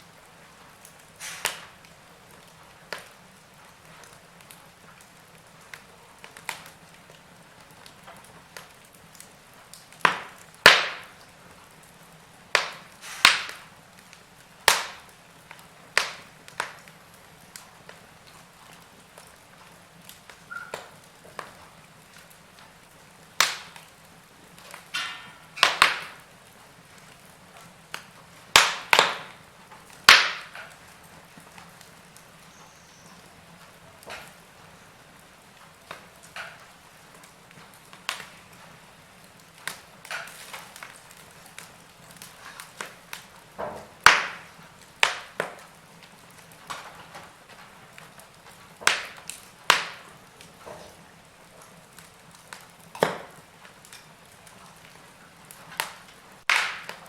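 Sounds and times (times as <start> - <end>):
faint steady hiss: 0.0 - 57.0
wood fire crackling: 0.0 - 57.0.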